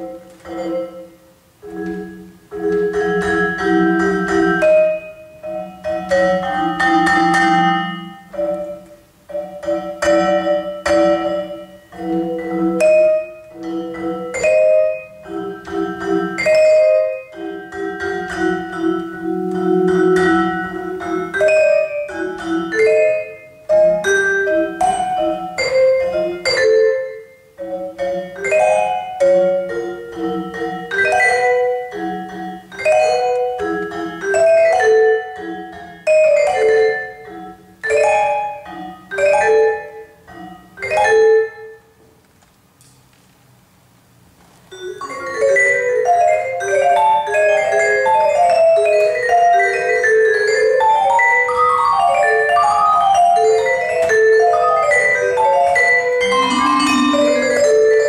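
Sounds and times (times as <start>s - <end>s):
vibraphone played with mallets: 0.0s - 42.0s, 44.7s - 58.0s.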